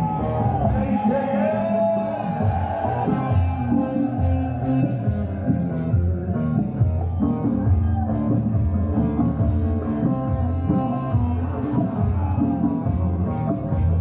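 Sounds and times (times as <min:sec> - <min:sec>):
music with guitar and drums: 0:00.0 - 0:14.0.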